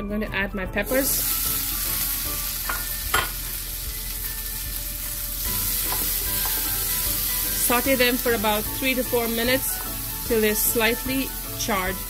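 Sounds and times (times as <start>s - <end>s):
peppers sizzling in butter: 0.8s - 12.0s.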